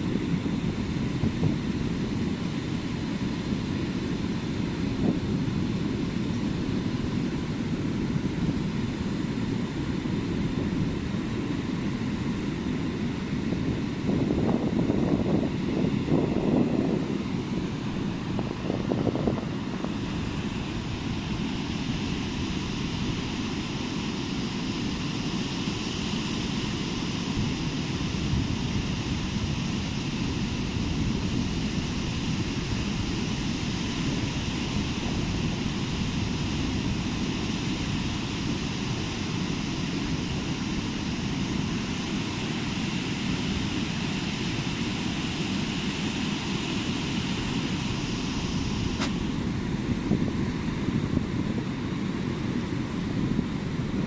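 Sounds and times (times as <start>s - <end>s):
wind noise on microphone: 0.0s - 54.0s.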